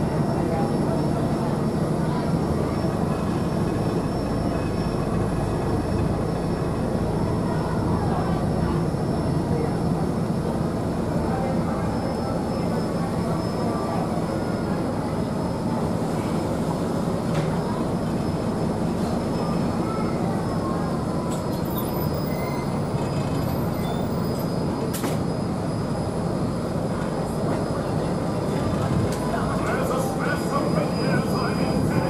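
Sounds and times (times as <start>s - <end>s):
diesel engine rumble: 0.0s - 32.0s.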